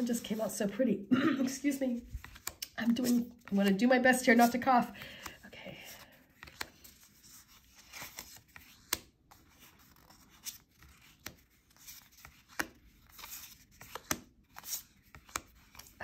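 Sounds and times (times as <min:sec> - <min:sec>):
cards sliding and rustling: 0:02.0 - 0:16.0.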